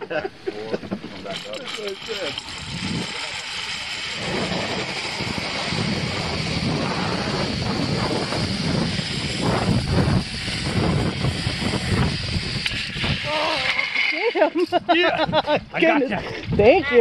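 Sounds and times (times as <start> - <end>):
zipline trolley whirring on cable: 0.0 - 17.0
wind on microphone: 0.7 - 14.0, 14.8 - 17.0.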